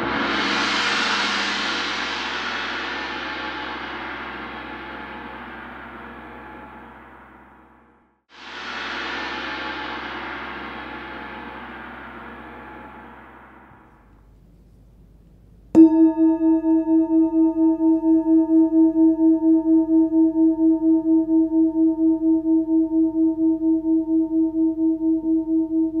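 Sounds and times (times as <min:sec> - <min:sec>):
singing bowl struck and ringing: 0:00.0 - 0:07.9, 0:08.9 - 0:14.2, 0:15.8 - 0:26.0.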